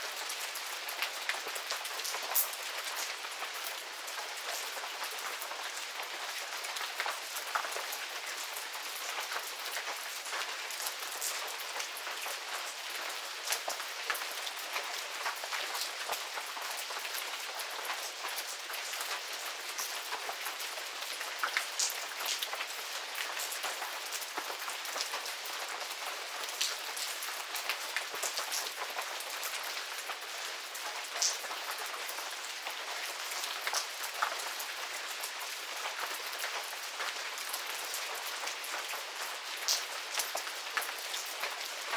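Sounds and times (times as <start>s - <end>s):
raindrops ticking on surfaces: 0.0s - 41.9s.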